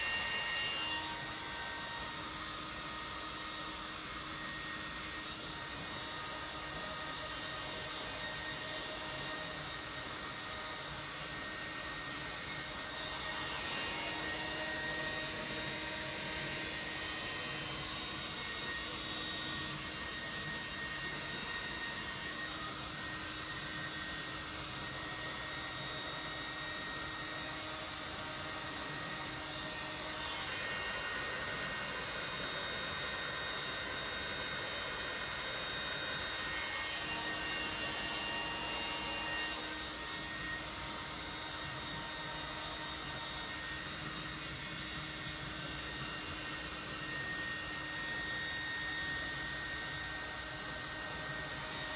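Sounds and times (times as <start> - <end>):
hair dryer running: 0.0 - 51.9.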